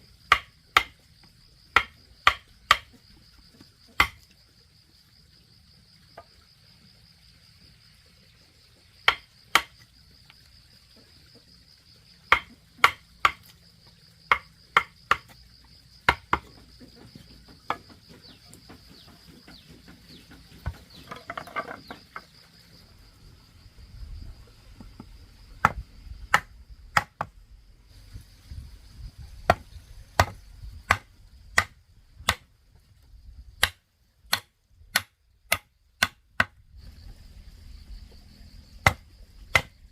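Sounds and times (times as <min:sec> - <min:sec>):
high-pitched insect trill: 0:00.0 - 0:32.1, 0:36.7 - 0:39.9.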